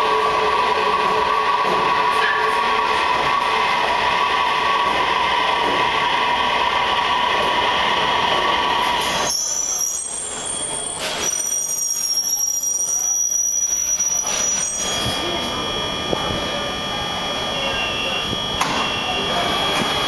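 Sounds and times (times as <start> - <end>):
subway train rumbling: 0.0 - 20.0
train brakes squealing: 0.0 - 20.0.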